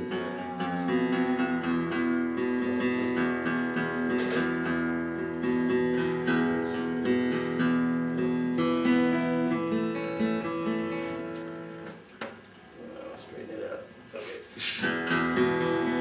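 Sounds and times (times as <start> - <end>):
acoustic guitar picked and strummed: 0.0 - 12.7, 14.6 - 16.0.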